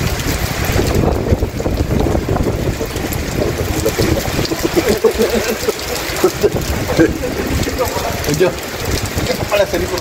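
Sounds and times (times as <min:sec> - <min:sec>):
low rumble: 0:00.0 - 0:09.3
heavy rain on pavement: 0:00.0 - 0:10.0.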